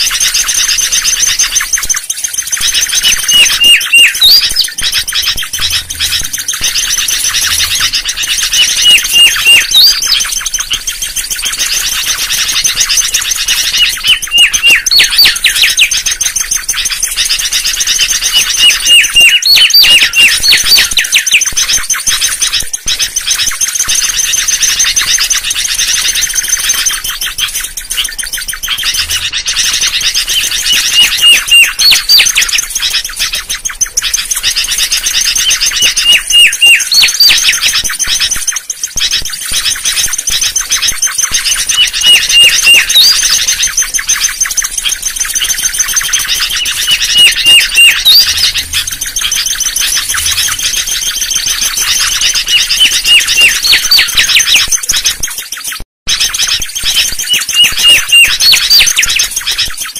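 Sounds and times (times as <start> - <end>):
bird whistled song: 0.0 - 59.9
rapid chirping: 0.0 - 59.9.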